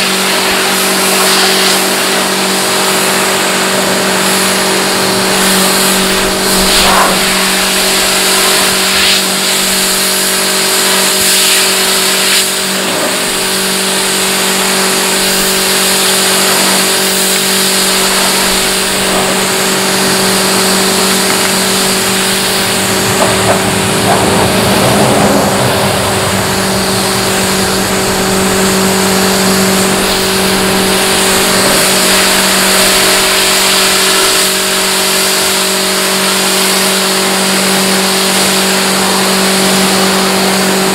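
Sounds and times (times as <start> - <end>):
pressure washer pump humming: 0.0 - 40.9
water jet hissing: 0.0 - 40.9.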